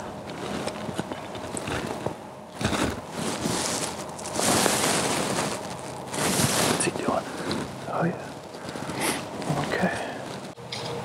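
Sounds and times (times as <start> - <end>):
dry leaves rustling and crunching: 0.0 - 10.4.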